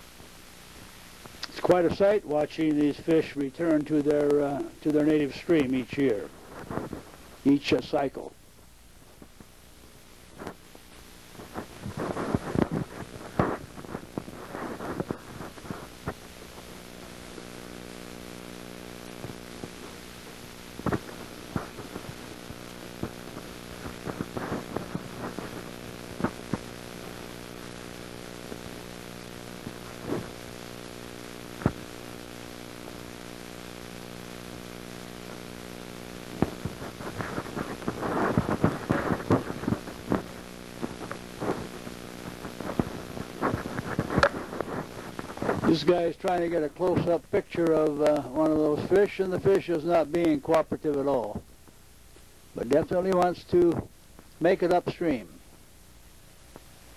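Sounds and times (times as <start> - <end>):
clicks and crackles: 0.0 - 55.6, 56.4 - 56.9
steady hum: 0.0 - 56.9.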